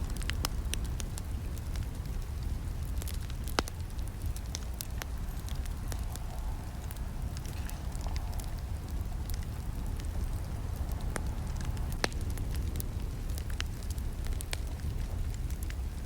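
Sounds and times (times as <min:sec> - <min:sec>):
low rumble of flames: 0:00.0 - 0:16.0
wood crackling and popping: 0:00.0 - 0:16.0.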